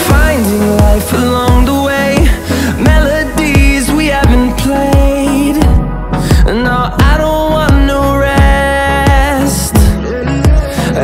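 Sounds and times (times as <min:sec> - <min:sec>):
pop music with bass drum: 0:00.0 - 0:11.0.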